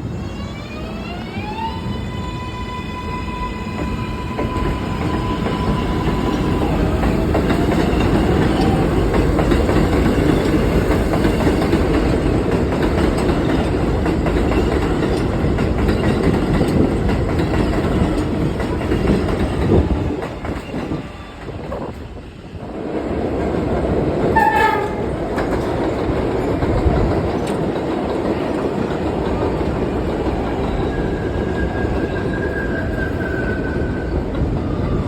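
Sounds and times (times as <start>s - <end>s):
subway train rumbling past: 0.0s - 35.0s.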